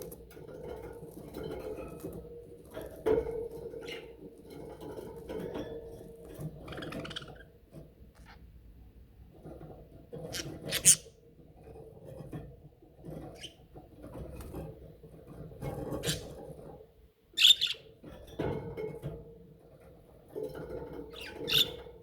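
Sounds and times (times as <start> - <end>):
budgies scratching and shuffling: 0.0 - 8.5, 9.3 - 16.8, 17.4 - 22.0.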